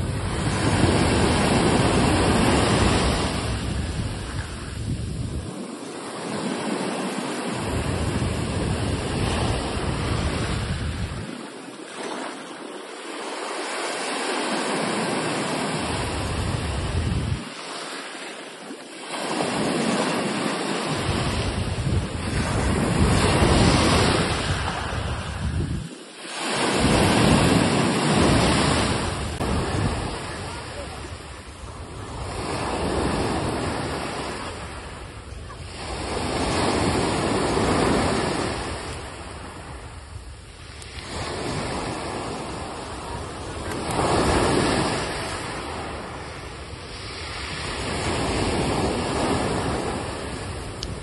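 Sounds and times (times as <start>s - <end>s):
wind buffeting microphone: 0.0s - 13.6s, 14.2s - 17.7s, 19.1s - 51.0s
sea waves washing in: 0.0s - 51.0s.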